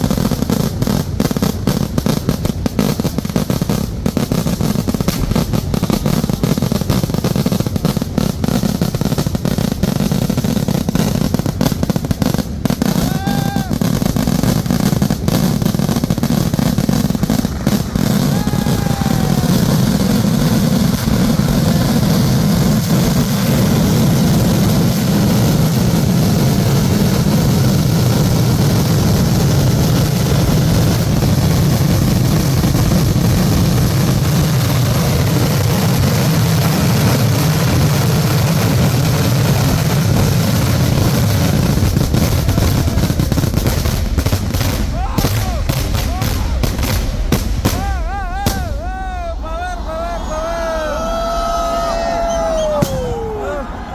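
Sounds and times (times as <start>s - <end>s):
firecracker cracks: 0.0s - 53.9s
fireworks barrage rumble: 0.0s - 53.9s.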